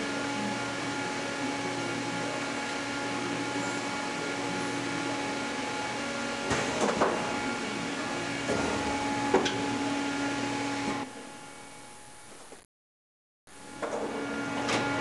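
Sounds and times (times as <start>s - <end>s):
welding machine hum: 0.0s - 12.6s.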